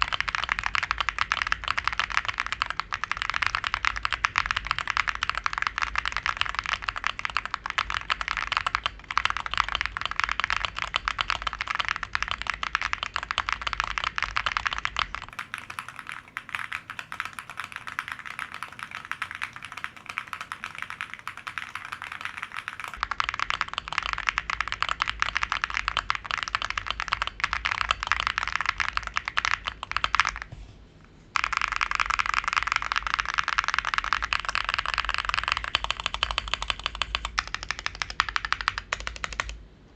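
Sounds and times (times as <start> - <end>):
mechanical keyboard typing: 0.0 - 30.5, 31.4 - 39.6.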